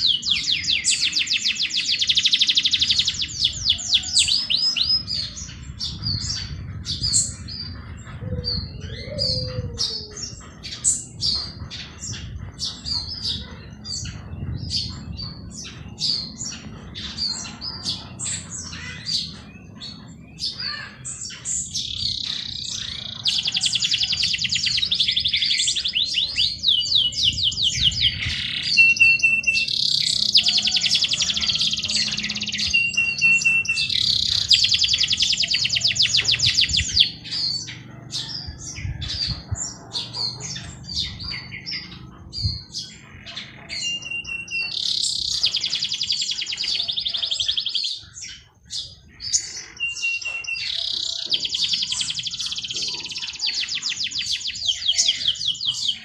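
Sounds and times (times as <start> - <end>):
birds singing rapid trills: 0.0 - 56.0
songbirds chirping: 0.0 - 56.0.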